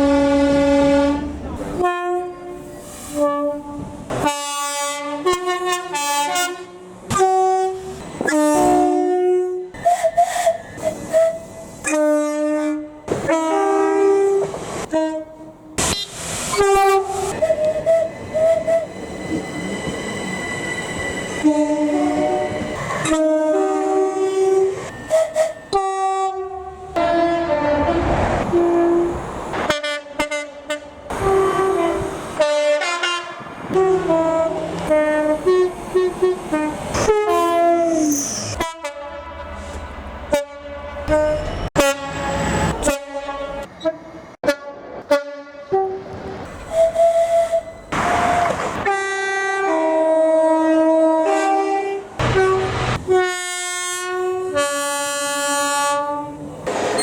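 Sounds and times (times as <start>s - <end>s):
train horn playing a tune: 0.0s - 18.9s, 21.4s - 38.0s, 38.6s - 56.4s
running train: 0.0s - 57.0s.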